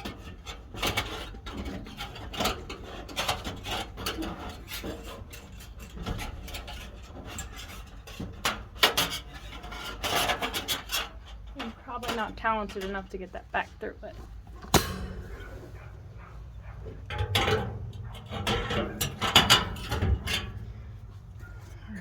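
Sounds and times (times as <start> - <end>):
wire scraping metal panel: 0.0 - 21.8.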